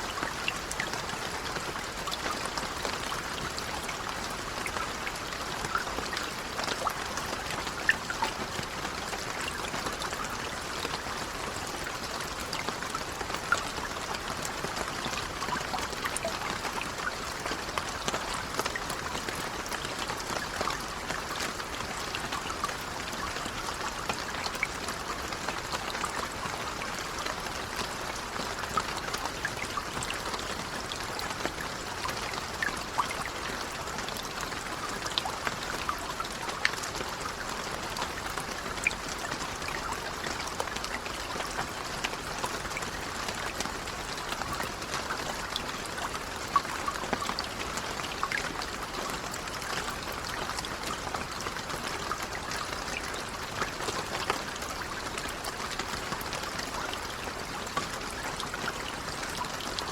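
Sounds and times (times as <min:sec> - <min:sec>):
steady gentle rain: 0:00.0 - 0:59.9.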